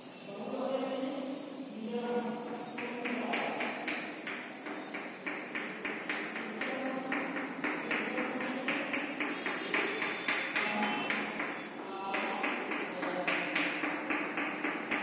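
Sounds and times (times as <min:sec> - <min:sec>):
chalk tapping on blackboard: 0:02.7 - 0:15.0.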